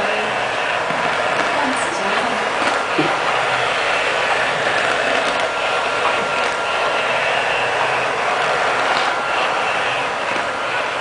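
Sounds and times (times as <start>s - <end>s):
robot vacuum cleaner whirring: 0.0s - 11.0s.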